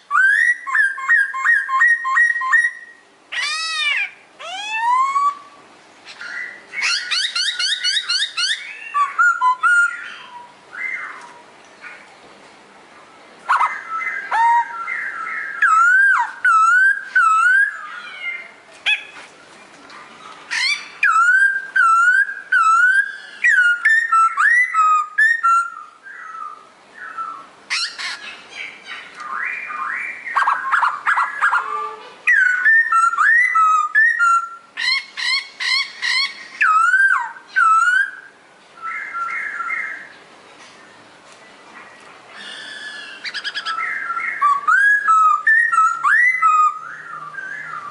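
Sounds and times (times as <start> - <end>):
songbird singing whistled phrases: 0.0 - 11.4, 13.5 - 19.2, 20.5 - 40.2, 42.4 - 47.9.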